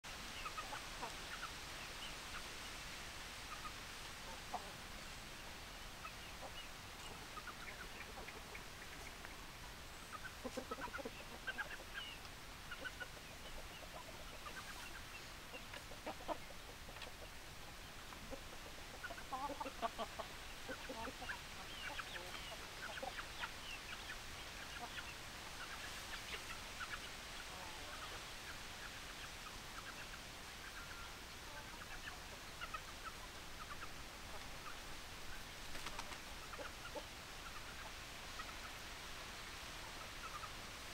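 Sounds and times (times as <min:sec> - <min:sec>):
chickens clucking: 0:00.2 - 0:40.9.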